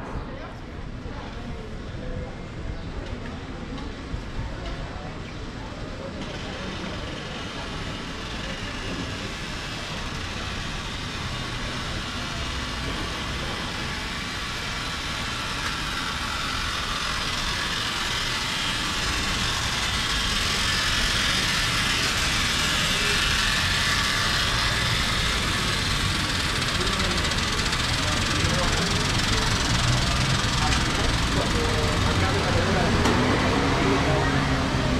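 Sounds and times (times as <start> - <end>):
vehicle engine running: 3.8 - 34.9.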